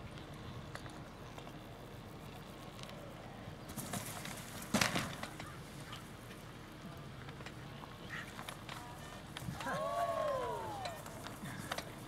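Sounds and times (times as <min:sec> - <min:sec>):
wheels bumping through grass: 0:00.0 - 0:12.0.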